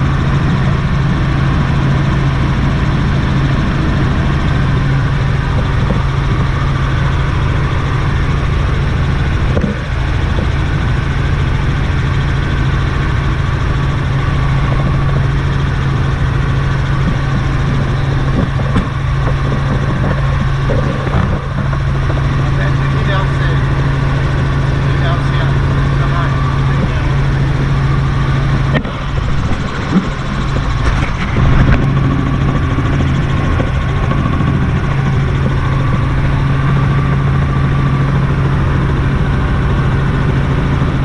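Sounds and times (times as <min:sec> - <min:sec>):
helicopter engine and rotors: 0:00.0 - 0:41.0.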